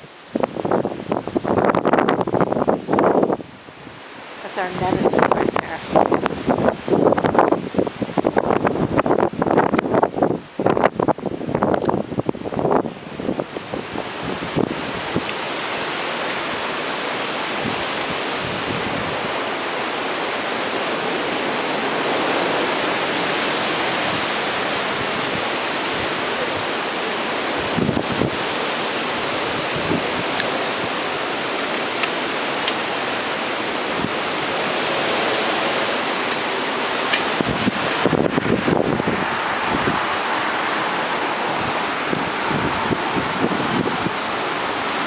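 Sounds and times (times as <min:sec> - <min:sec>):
strong wind gusting: 0:00.0 - 0:45.0.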